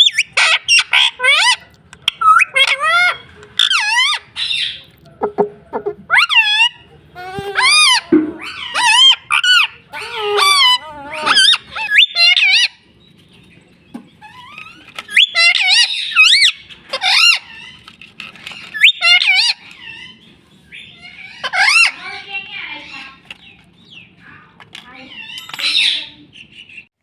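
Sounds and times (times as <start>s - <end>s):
parakeet squawking and chattering: 0.0s - 4.9s, 5.5s - 13.0s, 14.1s - 26.9s.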